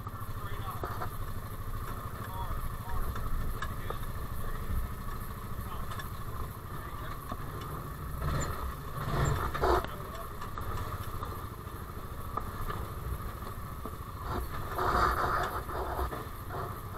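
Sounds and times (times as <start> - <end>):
utv engine running: 0.0 - 16.9.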